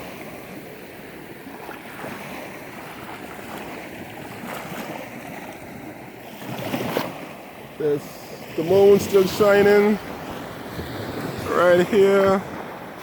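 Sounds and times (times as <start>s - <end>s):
ocean waves washing on beach: 0.0s - 13.0s
wind: 0.0s - 13.0s.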